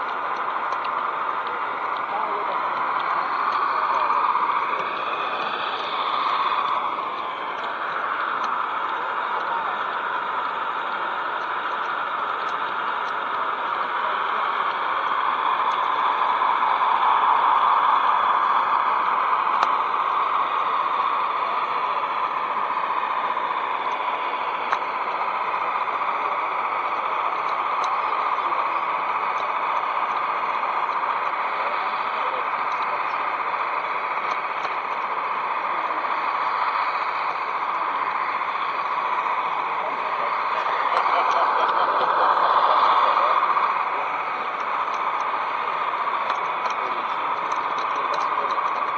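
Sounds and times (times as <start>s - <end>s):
model train running on rails: 0.0s - 48.9s.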